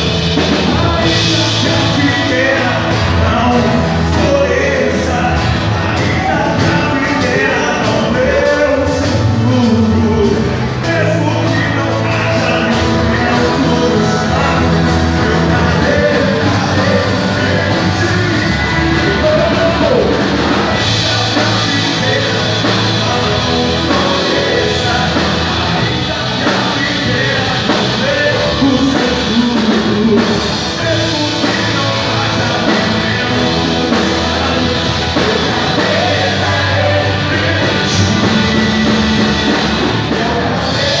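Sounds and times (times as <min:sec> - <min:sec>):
drum kit: 0:00.0 - 0:41.0
person singing: 0:00.0 - 0:41.0
rock band playing: 0:00.0 - 0:41.0.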